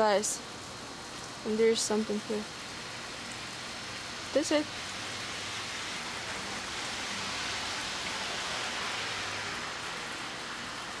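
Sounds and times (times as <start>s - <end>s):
rain hissing on snow and cars: 0.0s - 11.0s.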